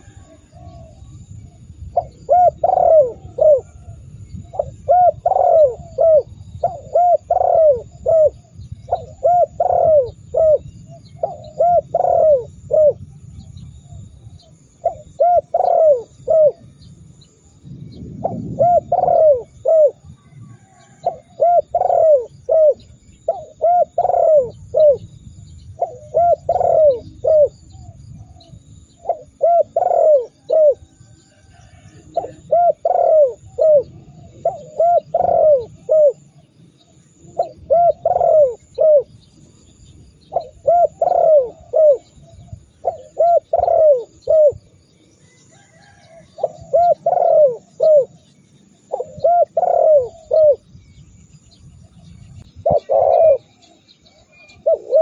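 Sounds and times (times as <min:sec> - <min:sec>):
dove cooing: 0:00.0 - 0:51.0, 0:52.0 - 0:55.0.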